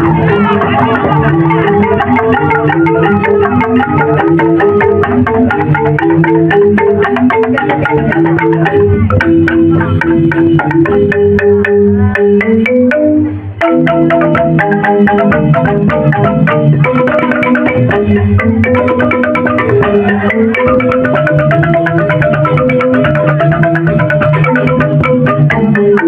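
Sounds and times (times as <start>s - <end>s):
bamboo xylophones playing: 0.0s - 26.0s.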